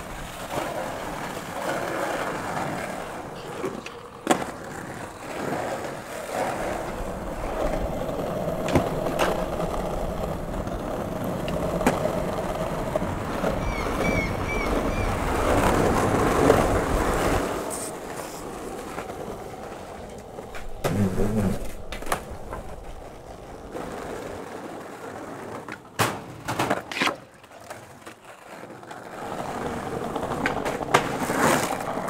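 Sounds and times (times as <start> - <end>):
skateboard clacks: 0.0 - 32.0
skateboard wheels rolling on pavement: 0.0 - 32.0.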